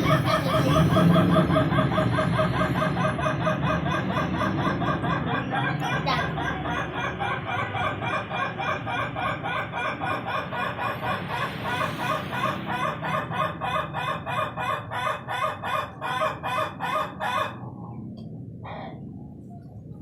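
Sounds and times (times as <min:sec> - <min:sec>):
rooster laughing crow: 0:00.0 - 0:17.6.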